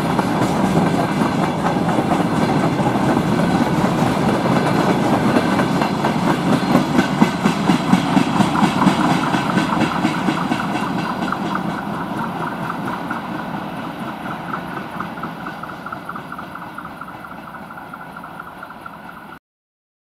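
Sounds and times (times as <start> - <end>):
train wheels clicking on track: 0.0 - 19.4.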